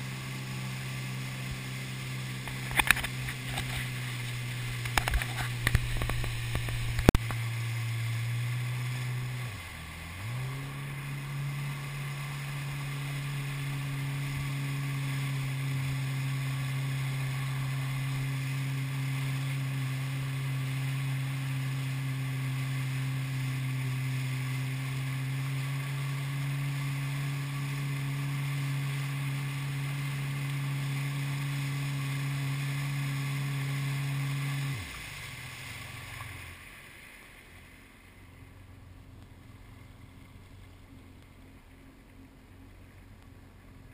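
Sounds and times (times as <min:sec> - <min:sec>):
jet ski engine droning: 0:00.0 - 0:43.9.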